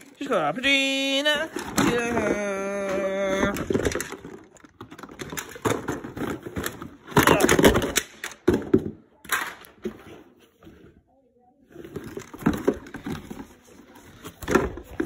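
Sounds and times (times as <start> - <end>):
cardboard and plastic rustling: 0.0 - 15.0.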